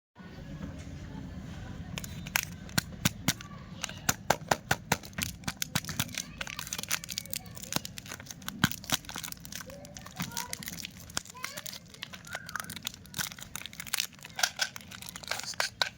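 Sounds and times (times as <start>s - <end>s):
plastic packaging crinkling: 2.0s - 15.9s.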